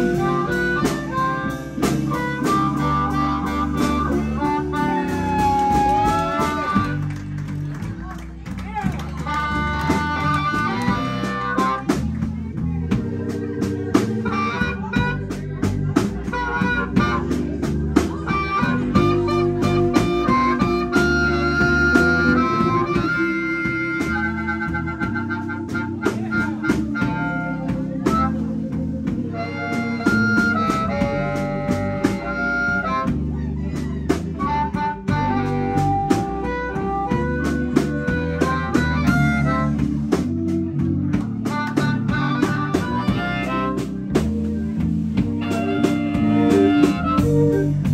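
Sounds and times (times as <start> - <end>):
blues harmonica solo: 0.0 - 7.9, 9.1 - 12.2, 13.2 - 47.9
electric guitars: 0.0 - 12.3, 12.9 - 47.9
bass guitar: 0.0 - 47.9
drum beat: 0.0 - 47.9.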